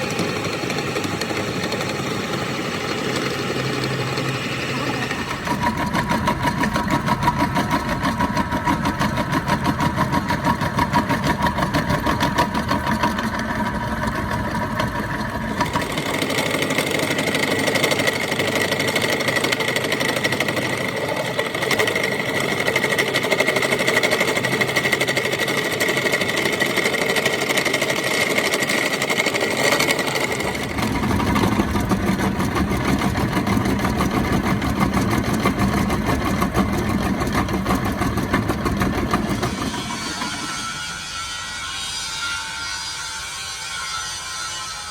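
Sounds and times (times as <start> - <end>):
workshop machinery rattling: 0.0 - 44.1
machine whine: 0.0 - 44.9.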